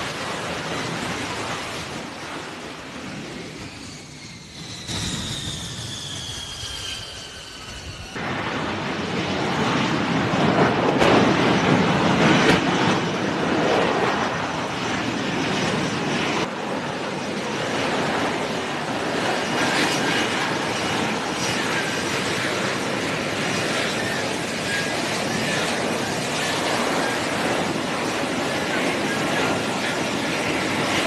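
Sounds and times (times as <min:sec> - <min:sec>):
fighter jet rushing roar: 0:00.0 - 0:31.0.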